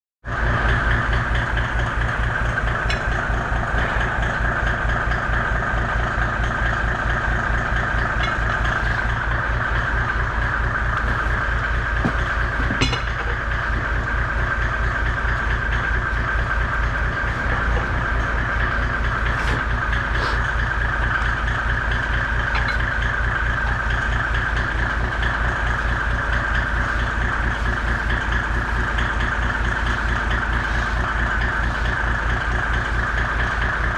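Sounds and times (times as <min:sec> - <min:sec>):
machine throbbing: 0:00.4 - 0:33.9.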